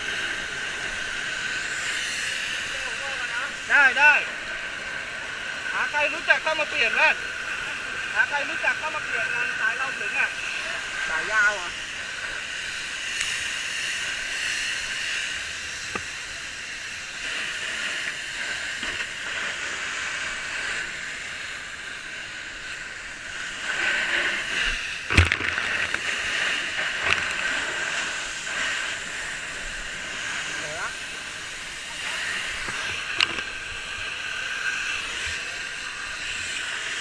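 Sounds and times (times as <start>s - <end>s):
fire hose spraying water: 0.0s - 37.0s.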